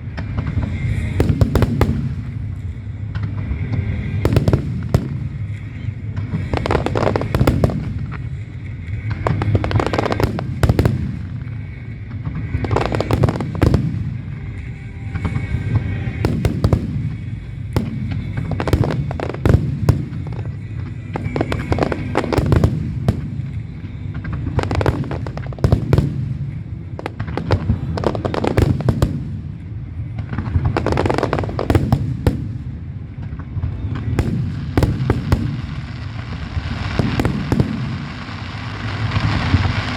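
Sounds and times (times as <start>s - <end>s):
continuous low rumble: 0.0s - 39.9s
fireworks bursting and crackling: 0.0s - 39.9s.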